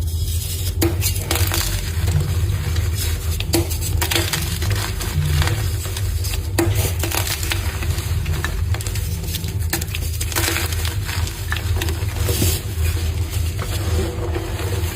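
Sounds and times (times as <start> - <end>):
chalk crunching and crumbling: 0.0 - 14.9
low hum: 0.0 - 14.9.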